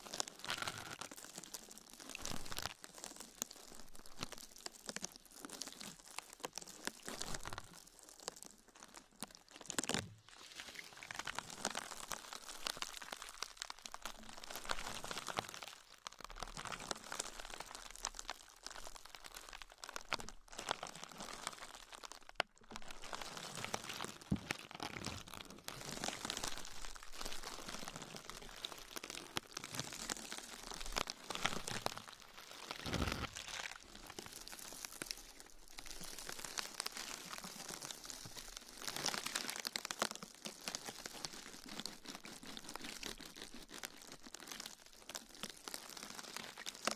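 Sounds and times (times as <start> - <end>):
material crinkling and crunching: 0.0 - 46.9.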